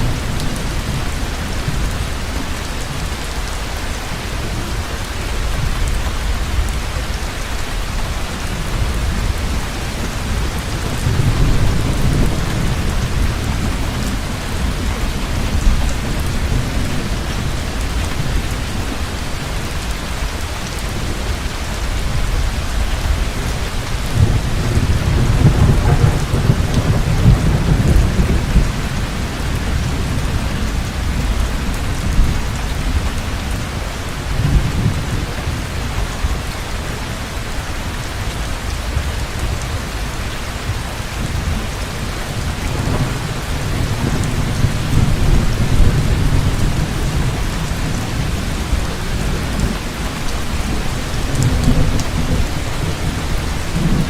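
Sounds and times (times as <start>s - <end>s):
thunder rumbling: 0.0s - 37.0s, 40.7s - 54.0s
heavy rain falling: 0.0s - 54.0s.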